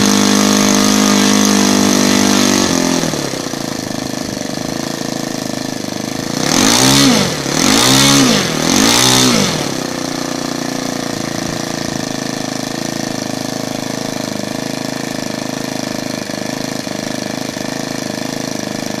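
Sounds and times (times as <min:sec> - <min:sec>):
model airplane engine idling: 0:00.0 - 0:19.0.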